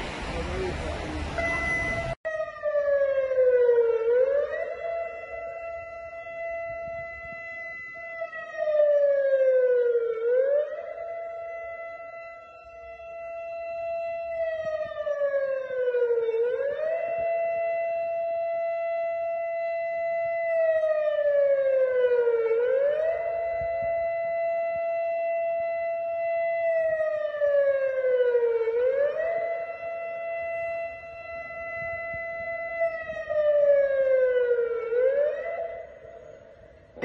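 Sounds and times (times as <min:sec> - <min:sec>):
warning siren: 0:01.3 - 0:37.0.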